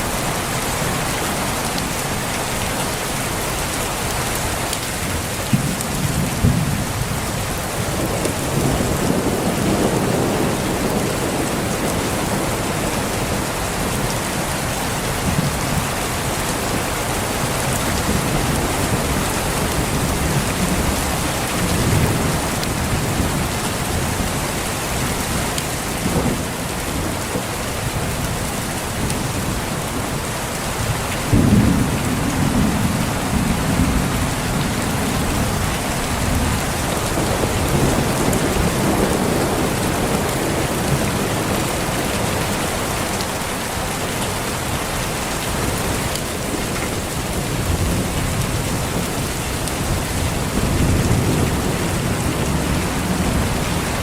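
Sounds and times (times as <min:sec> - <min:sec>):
heavy rain falling: 0:00.0 - 0:54.0
thunder rumbling: 0:05.5 - 0:14.6, 0:15.2 - 0:43.3, 0:45.6 - 0:54.0.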